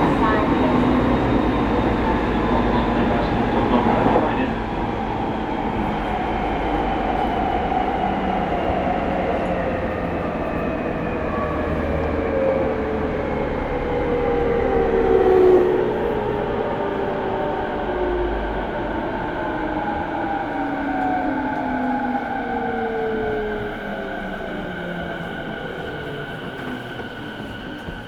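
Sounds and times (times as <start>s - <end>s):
train car rumble: 0.0s - 28.0s.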